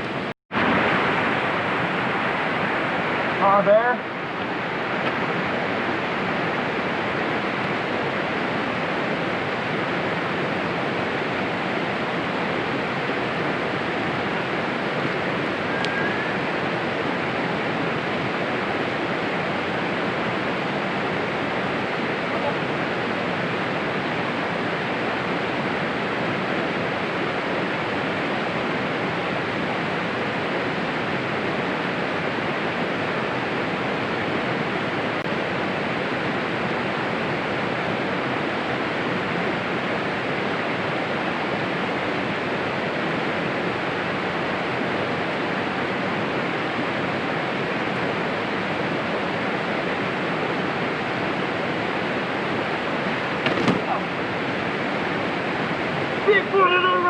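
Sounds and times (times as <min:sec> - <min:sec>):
steady rushing noise: 0:00.0 - 0:57.0.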